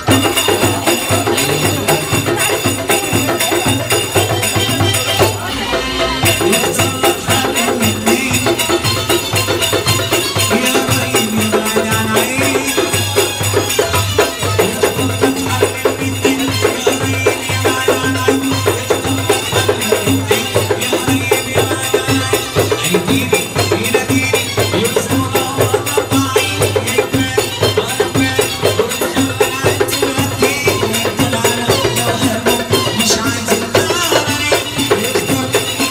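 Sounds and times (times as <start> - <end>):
goblet drums beating fast rhythm: 0.0 - 35.9
held melody line: 0.0 - 35.9
jingling percussion: 0.0 - 35.9.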